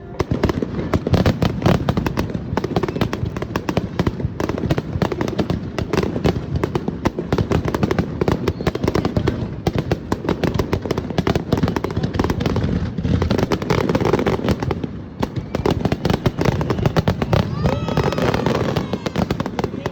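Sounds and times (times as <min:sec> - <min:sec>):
fireworks bursting and crackling: 0:00.0 - 0:19.9.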